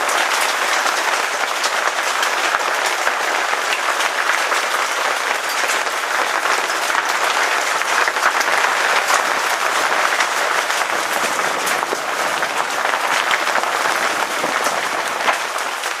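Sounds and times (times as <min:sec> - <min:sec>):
hailstones pelting down: 0:00.0 - 0:16.0.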